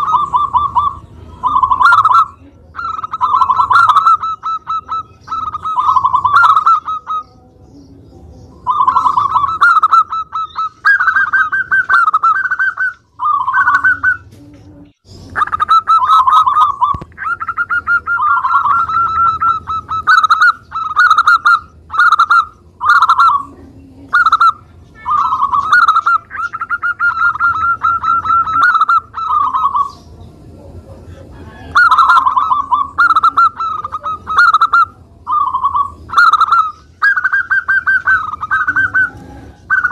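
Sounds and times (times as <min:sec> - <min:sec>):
dove cooing trills: 0:00.0 - 0:39.9.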